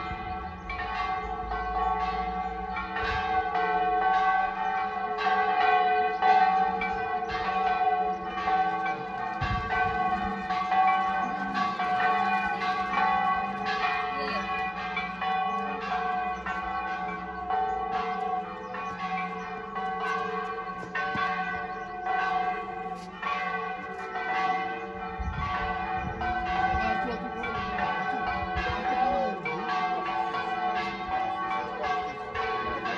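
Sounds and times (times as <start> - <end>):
church bells ringing: 0.0 - 32.9.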